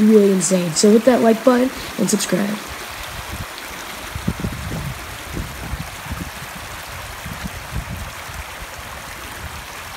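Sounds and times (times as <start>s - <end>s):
stream splashing over stones: 0.0s - 9.9s.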